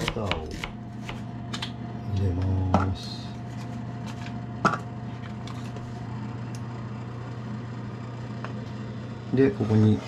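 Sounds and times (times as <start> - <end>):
induction hob humming: 0.0 - 10.0.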